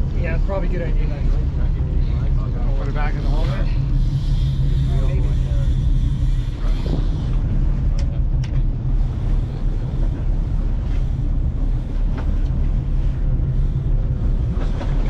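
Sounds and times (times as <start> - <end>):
boat engines idling: 0.0 - 15.0.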